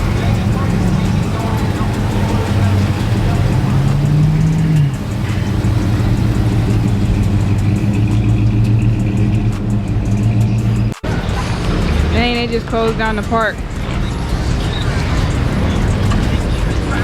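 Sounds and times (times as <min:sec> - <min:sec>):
car engine revving: 0:00.0 - 0:17.0
rumble of other vehicles: 0:00.0 - 0:17.0.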